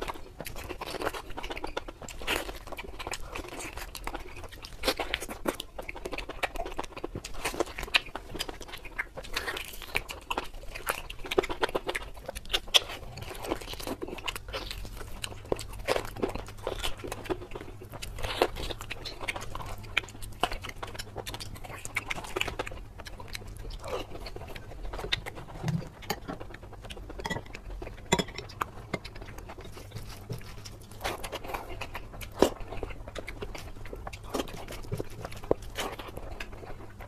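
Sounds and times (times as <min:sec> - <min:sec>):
wet chewing and lip-smacking: 0:00.0 - 0:37.0.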